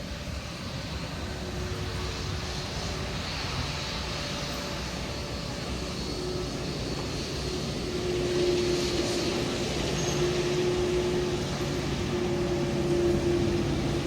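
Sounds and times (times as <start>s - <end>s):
airliner engines rushing: 0.0s - 14.0s.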